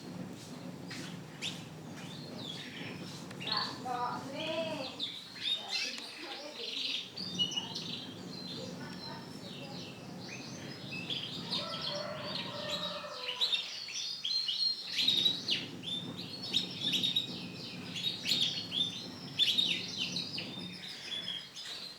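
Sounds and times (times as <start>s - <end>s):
canaries chirping: 0.1s - 21.9s.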